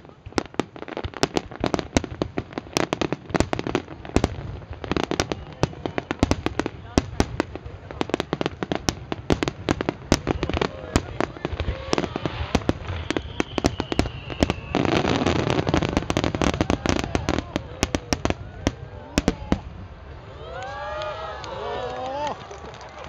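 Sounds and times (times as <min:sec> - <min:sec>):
fireworks bangs and crackling: 0:00.0 - 0:20.9.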